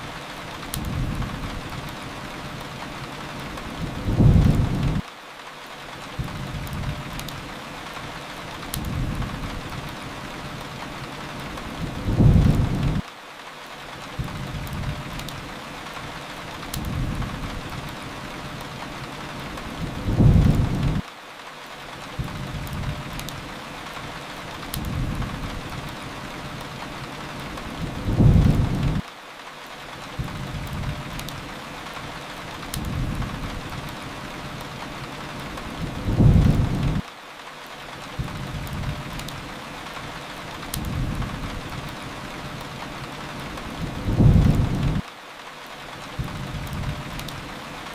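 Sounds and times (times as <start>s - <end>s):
fireplace crackles: 0.0s - 47.9s
steady rain hiss: 0.0s - 47.9s.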